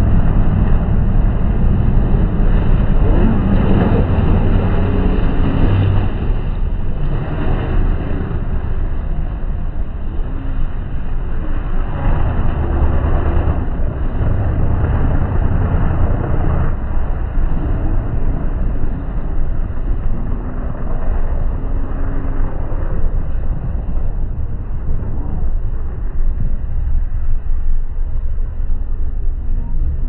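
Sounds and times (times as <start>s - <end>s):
race car engines droning: 0.0s - 30.0s.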